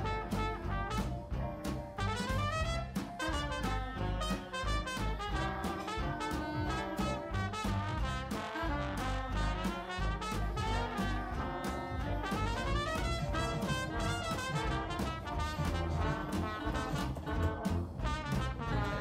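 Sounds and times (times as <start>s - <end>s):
swing music with brass: 0.0s - 19.0s.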